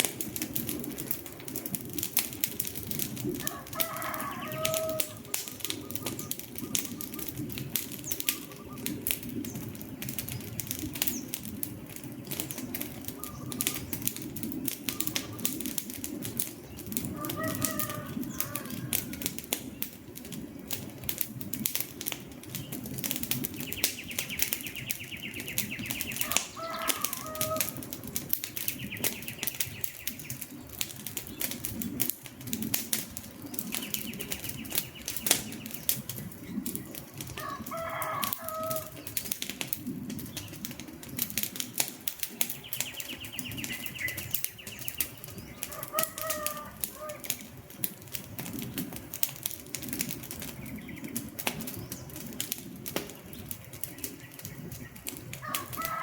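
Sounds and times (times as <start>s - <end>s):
campfire crackling and popping: 0.0s - 56.0s
low rumble of flame: 0.0s - 56.0s.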